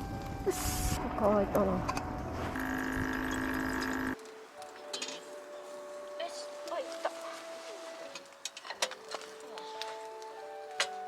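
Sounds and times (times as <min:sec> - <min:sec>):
music of slow held notes: 0:00.0 - 0:11.0.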